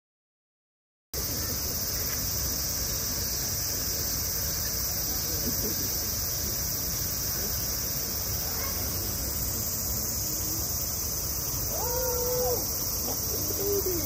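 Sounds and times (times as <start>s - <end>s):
cicada chorus drone: 1.2s - 14.0s.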